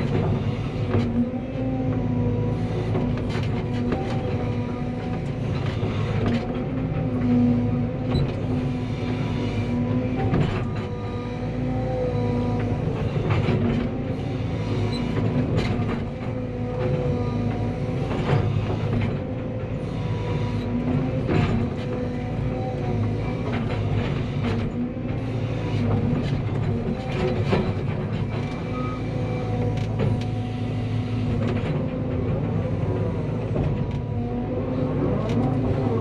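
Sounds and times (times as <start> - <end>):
excavator diesel engine humming: 0.0 - 36.0.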